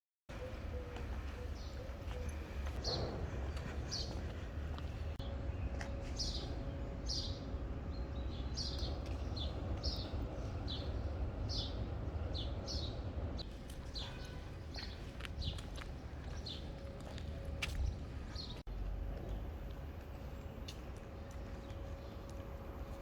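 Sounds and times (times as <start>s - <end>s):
low rumble: 2.3s - 23.0s.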